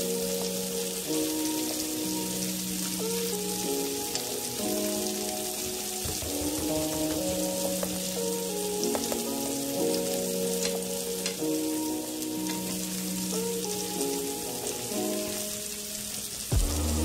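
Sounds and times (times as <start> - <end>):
food frying and sizzling: 0.0 - 17.0
slow background music: 0.0 - 17.0.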